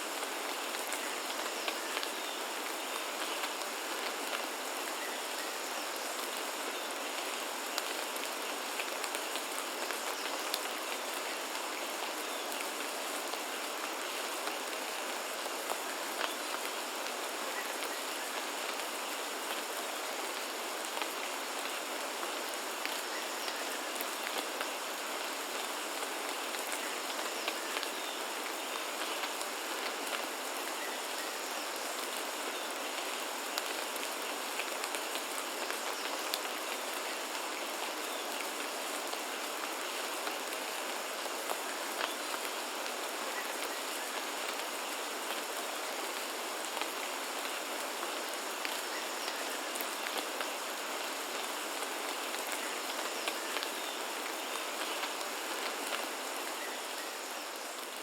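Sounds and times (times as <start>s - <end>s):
steady rain falling: 0.0s - 58.0s
raindrops ticking on surfaces: 0.1s - 58.0s.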